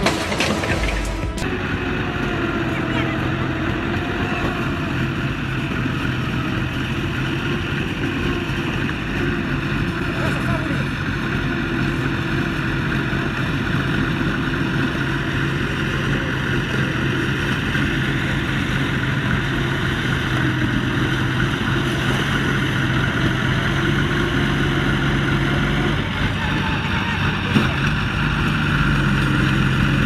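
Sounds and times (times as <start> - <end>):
heavy engine humming: 0.0 - 30.0.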